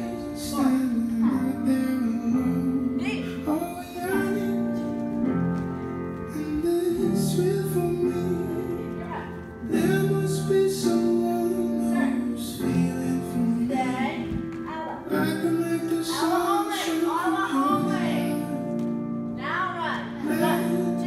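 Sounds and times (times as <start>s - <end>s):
song with singing over instruments: 0.0s - 21.0s.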